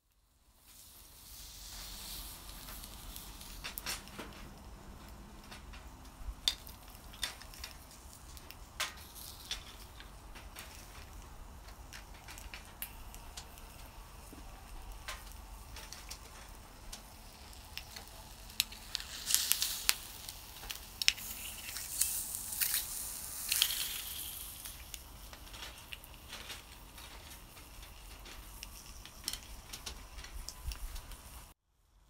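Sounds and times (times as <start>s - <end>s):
shellfish sizzling on grill: 0.0s - 31.9s.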